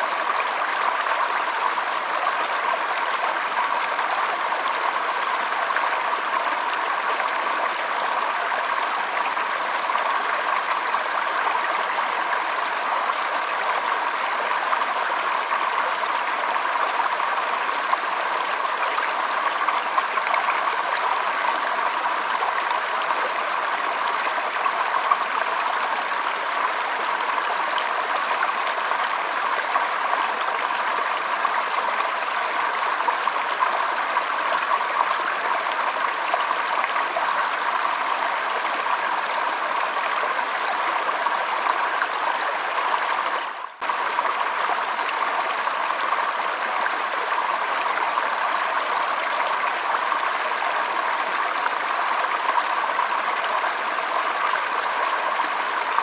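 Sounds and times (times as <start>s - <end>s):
stream babbling over stones: 0.0s - 56.0s.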